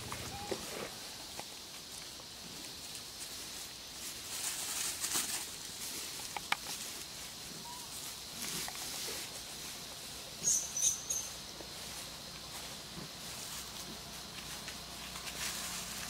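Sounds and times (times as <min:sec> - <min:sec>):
dry leaves rustling and crackling: 0:00.0 - 0:16.0.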